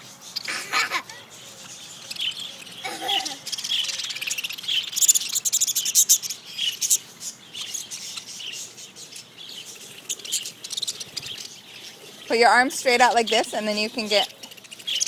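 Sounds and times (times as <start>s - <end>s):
budgerigars chirping and warbling: 0.0s - 15.0s.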